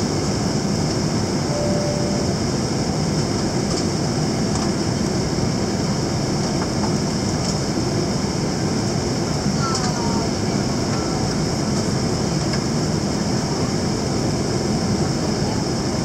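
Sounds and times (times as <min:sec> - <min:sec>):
low rumble of jet engines: 0:00.0 - 0:16.0.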